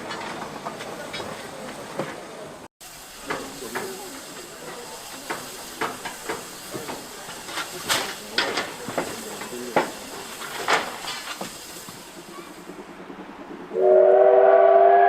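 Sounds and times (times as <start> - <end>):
steam hissing: 2.8 - 15.0.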